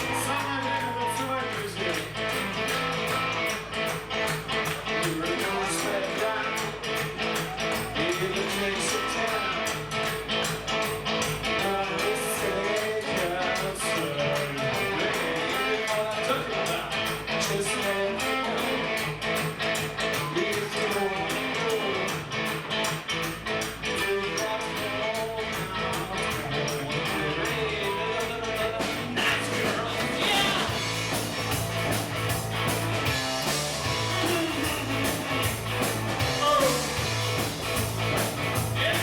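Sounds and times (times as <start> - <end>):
electric guitar playing: 0.0 - 39.0
fast drum beat: 0.0 - 39.0.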